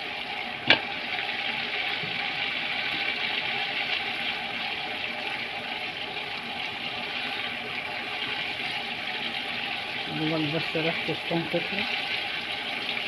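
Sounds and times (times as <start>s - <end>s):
garlic sizzling in a frying pan: 0.0s - 13.0s.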